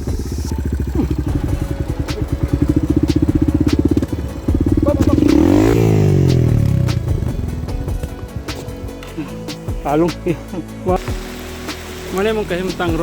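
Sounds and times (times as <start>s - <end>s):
motorcycle engine chugging and revving: 0.0s - 13.0s.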